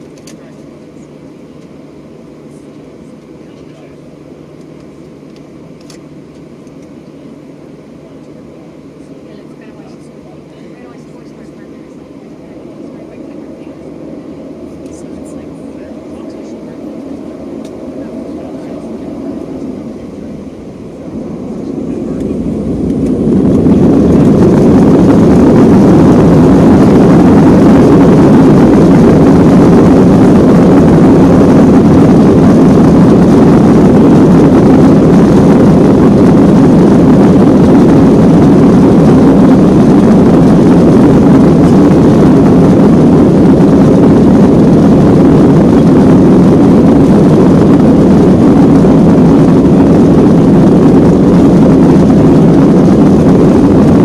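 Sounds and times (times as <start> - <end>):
jet engines roaring in cabin: 0.0 - 54.0.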